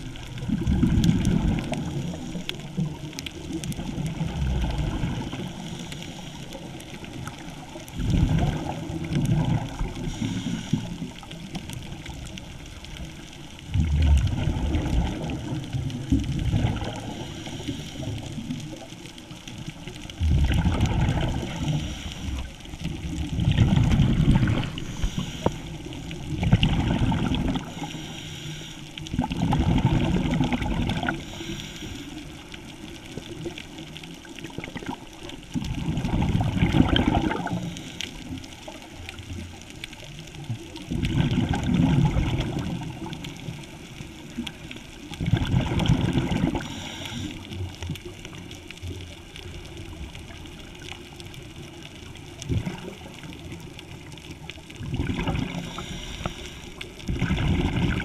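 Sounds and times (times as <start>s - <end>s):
bubbling exhaled air underwater: 0.0s - 58.0s.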